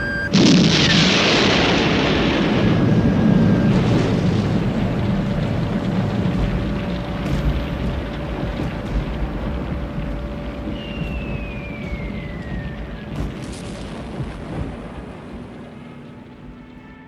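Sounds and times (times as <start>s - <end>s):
falling bomb whistle: 0.0s - 14.8s
low rumble of bombing: 0.0s - 17.0s
sharp crack: 0.0s - 17.0s.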